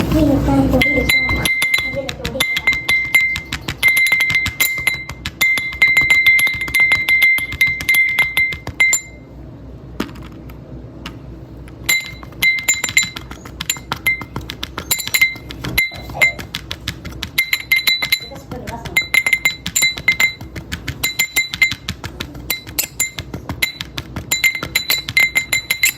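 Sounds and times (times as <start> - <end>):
rapid tapping on ringing object: 0.7 - 9.3, 11.8 - 25.9.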